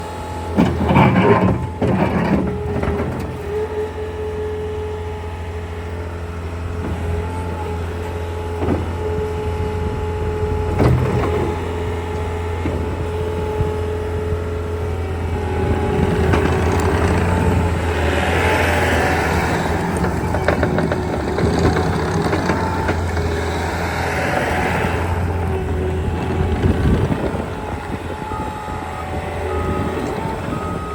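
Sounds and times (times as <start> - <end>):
diesel engine running with whine: 0.0 - 30.9.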